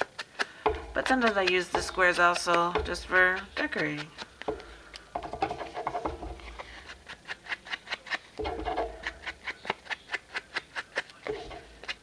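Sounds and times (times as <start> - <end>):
foam applicator tapping paper: 0.0 - 12.0.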